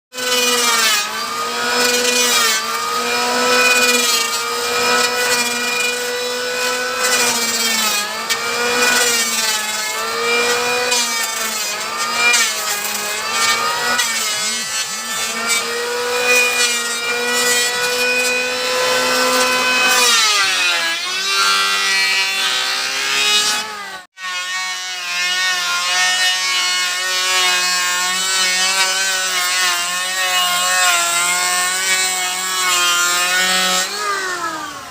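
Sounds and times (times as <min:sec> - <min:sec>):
electric wood planer running: 0:00.1 - 0:34.9.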